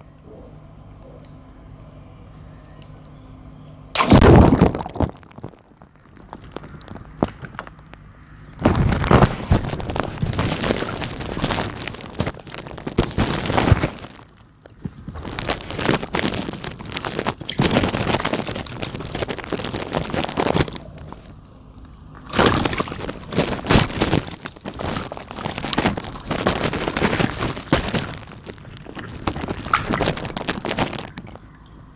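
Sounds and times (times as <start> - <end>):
balloons popping: 4.0 - 8.0, 8.6 - 21.3, 22.2 - 31.4.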